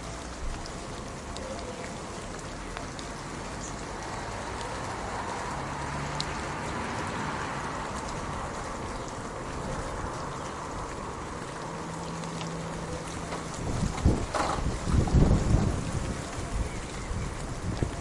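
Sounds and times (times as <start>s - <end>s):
rain hissing: 0.0s - 18.0s
raindrops clicking: 0.0s - 18.0s.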